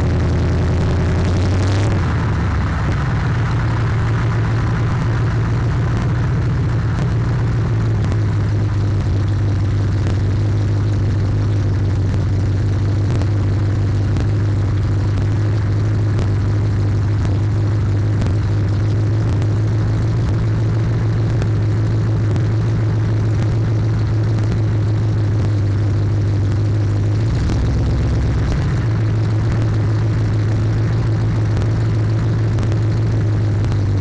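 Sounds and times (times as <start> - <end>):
car engine and exhaust droning: 0.0 - 34.0.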